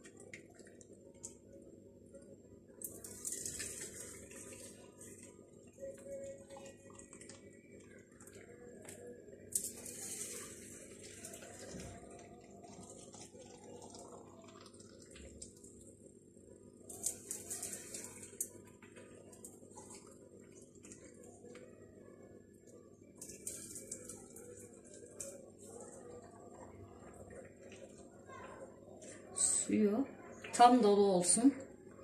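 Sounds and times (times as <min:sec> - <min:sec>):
boiling water pouring into jars: 0:00.0 - 0:32.0.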